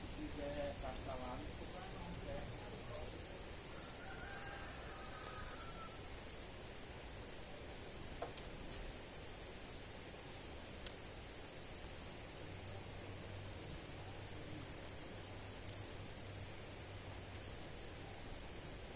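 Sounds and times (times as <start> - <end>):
outdoor background hiss: 0.0 - 18.9
small birds chirping: 0.0 - 18.9.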